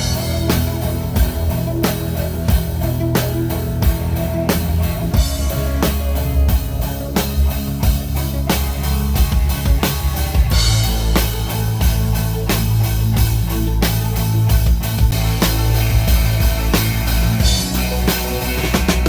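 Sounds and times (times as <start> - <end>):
loud rock music: 0.0 - 19.0.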